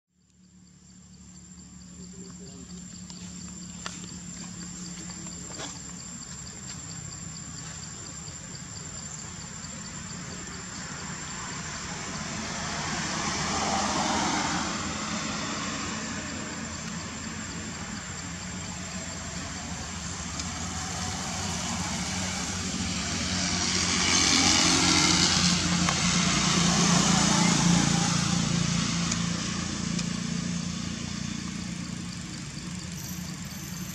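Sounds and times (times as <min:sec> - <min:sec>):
low engine hum: 0:00.2 - 0:33.9.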